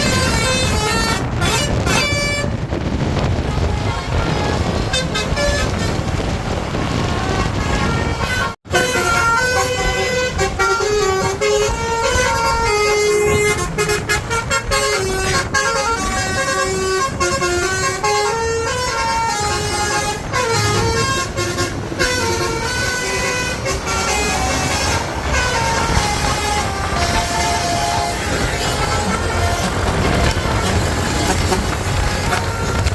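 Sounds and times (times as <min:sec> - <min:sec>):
multi-trumpet air horn tune: 0:00.0 - 0:02.6, 0:03.4 - 0:06.0, 0:07.0 - 0:32.9
bus engine rumble: 0:00.0 - 0:32.9
traffic: 0:00.0 - 0:32.9.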